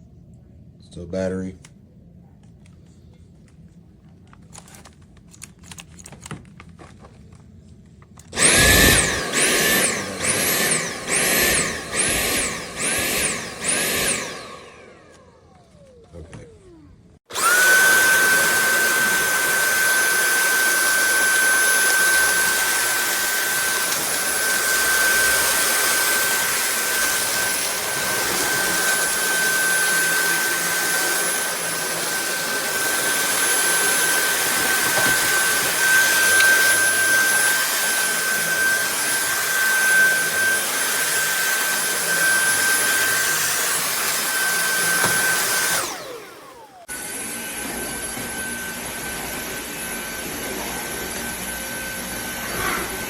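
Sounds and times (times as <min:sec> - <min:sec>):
vacuum cleaner motor whine: 0:08.3 - 0:53.0.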